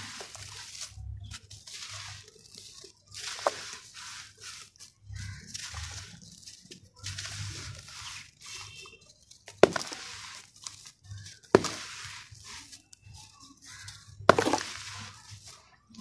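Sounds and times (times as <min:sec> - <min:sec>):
dirt crumbling in hands: 0:00.0 - 0:08.6, 0:09.2 - 0:16.0
sharp dirt crunches: 0:00.0 - 0:16.0.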